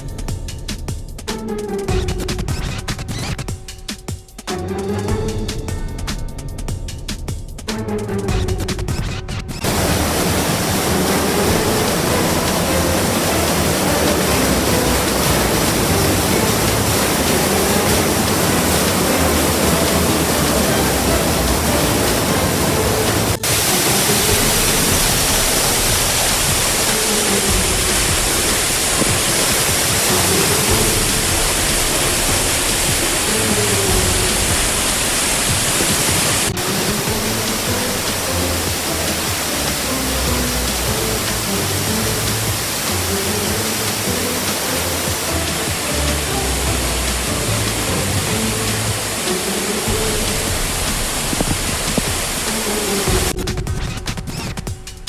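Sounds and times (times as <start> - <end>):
water rushing: 9.6 - 54.4.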